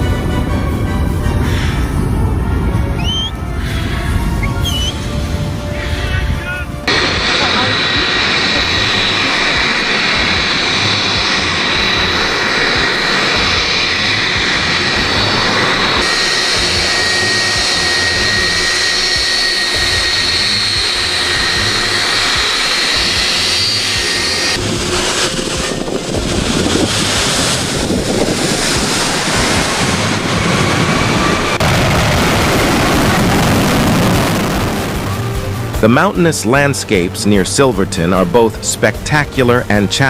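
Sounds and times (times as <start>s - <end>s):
aircraft engine rushing with whine: 0.0s - 40.0s.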